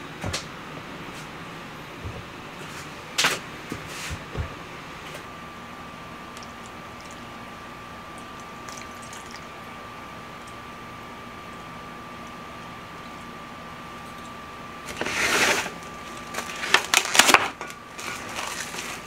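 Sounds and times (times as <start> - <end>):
faint hum with high tone: 0.0 - 19.0.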